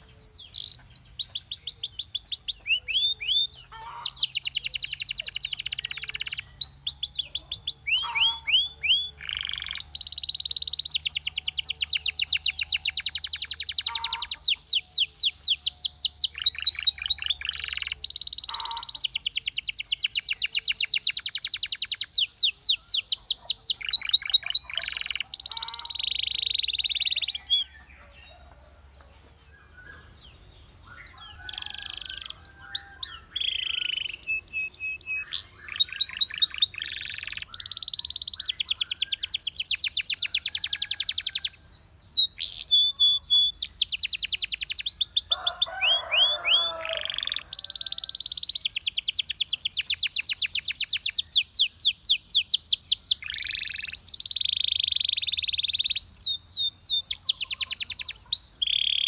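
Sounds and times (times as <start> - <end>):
canary singing trills: 0.0 - 28.7, 29.5 - 59.0.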